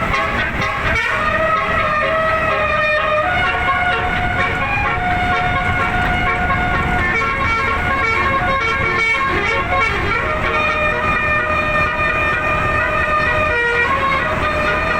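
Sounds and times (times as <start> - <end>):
bus musical air horn tune: 0.0 - 14.9.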